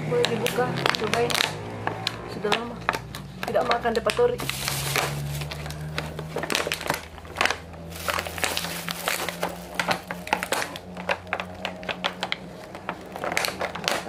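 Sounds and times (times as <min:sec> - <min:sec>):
plastic wrap crinkling: 0:00.4 - 0:14.0.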